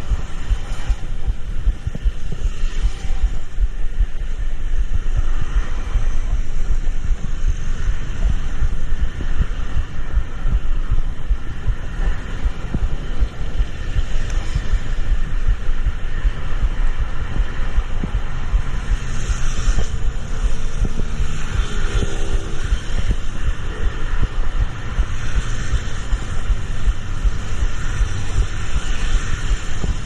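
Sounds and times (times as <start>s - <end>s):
vehicle road rumble with thumps: 0.0s - 30.0s.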